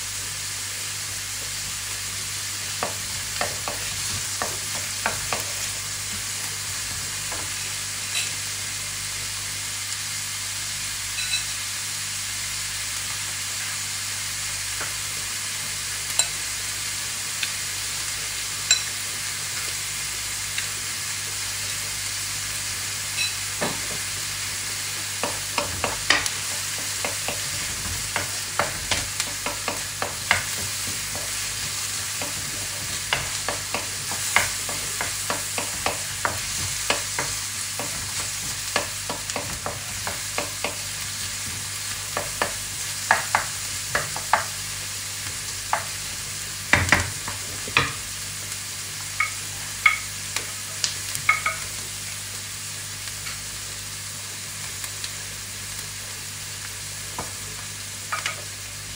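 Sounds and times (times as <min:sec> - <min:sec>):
onion sizzling in oil: 0:00.0 - 0:58.9.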